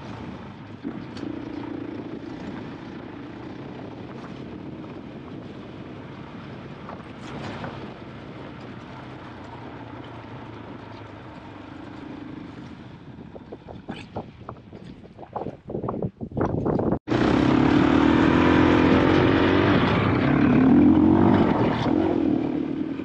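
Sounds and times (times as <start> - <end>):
motorcycle engine running: 0.0 - 14.7, 17.1 - 23.0.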